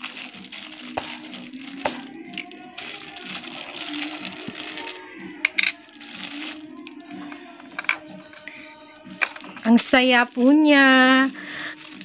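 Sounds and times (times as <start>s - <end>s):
plastic bag crinkling: 0.0s - 8.5s, 9.1s - 12.0s.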